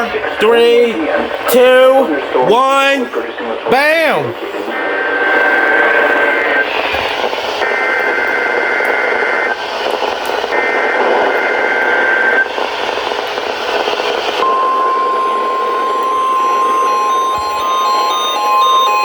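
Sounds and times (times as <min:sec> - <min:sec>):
radio static: 0:00.0 - 0:19.0.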